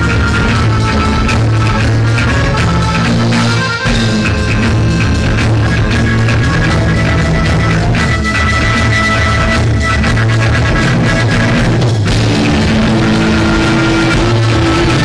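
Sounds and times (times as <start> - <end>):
drum kit: 0.0 - 15.0
electric guitars: 0.0 - 15.0
live rock band playing: 0.0 - 15.0.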